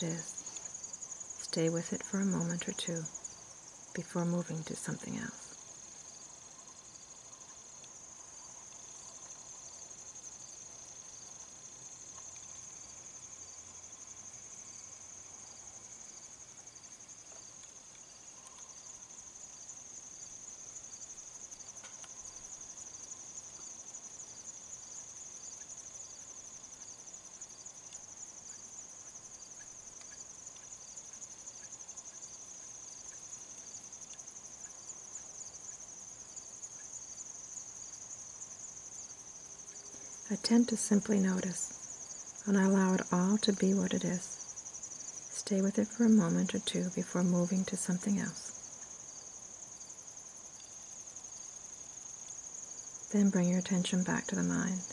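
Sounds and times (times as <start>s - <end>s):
faint insect chirp: 0.0s - 54.9s
insects trilling: 0.0s - 54.9s.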